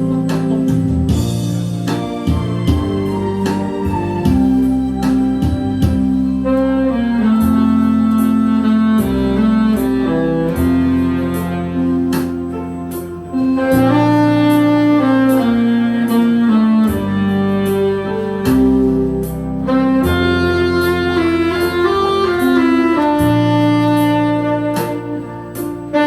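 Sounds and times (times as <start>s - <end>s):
backing track with bass and drums: 0.0s - 26.0s
saxophone slow melody: 0.0s - 26.0s.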